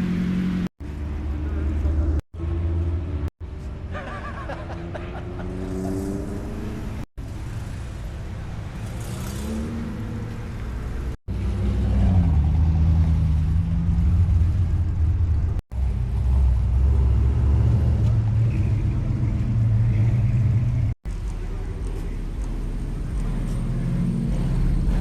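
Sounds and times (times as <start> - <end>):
car engines running at low revs: 4.6 - 25.0.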